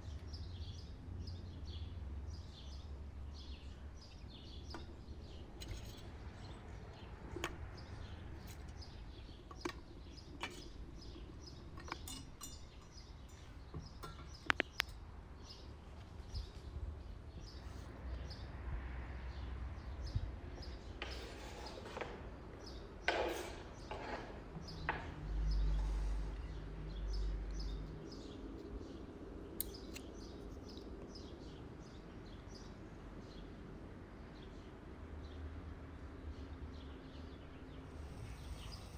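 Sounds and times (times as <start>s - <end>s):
birds chirping: 0.0s - 18.6s, 19.2s - 35.4s, 36.0s - 38.9s.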